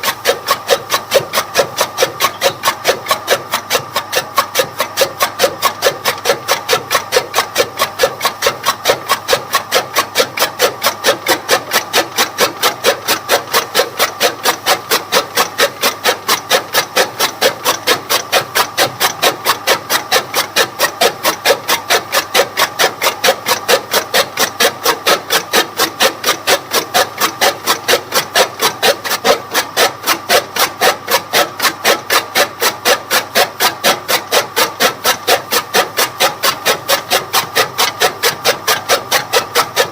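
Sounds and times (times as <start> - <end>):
chaff cutter blades chopping: 0.0 - 39.9.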